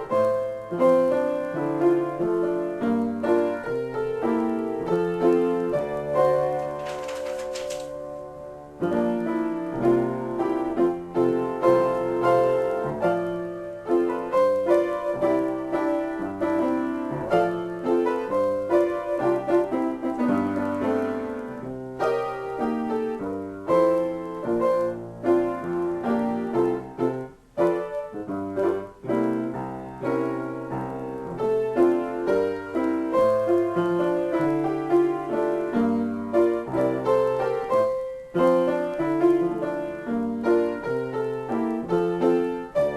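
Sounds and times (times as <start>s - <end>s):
solo piano: 0.0s - 42.9s.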